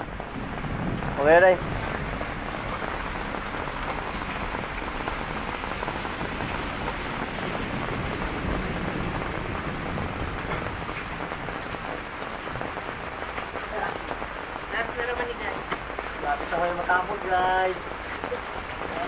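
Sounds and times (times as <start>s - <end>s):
heavy rain on hard ground: 0.0s - 19.0s.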